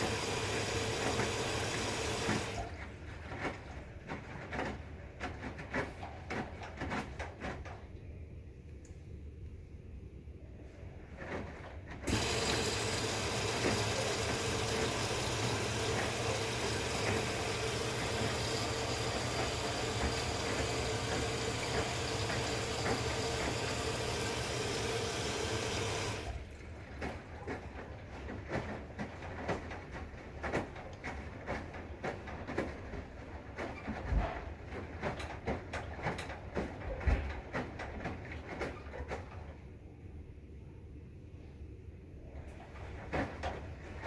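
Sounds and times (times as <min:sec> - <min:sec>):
water rushing into washing machine: 0:00.0 - 0:07.7, 0:11.1 - 0:39.6
washing machine hum: 0:00.0 - 0:44.0.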